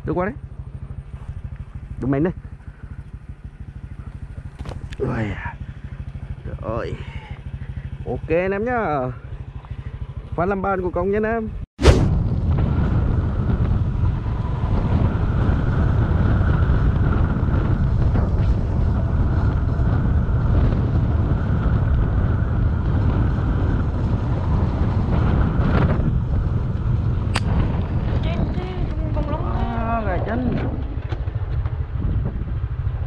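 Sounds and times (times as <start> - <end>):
motorbike engine running: 0.0 - 11.6, 12.2 - 33.0
wind buffeting microphone: 0.0 - 33.0.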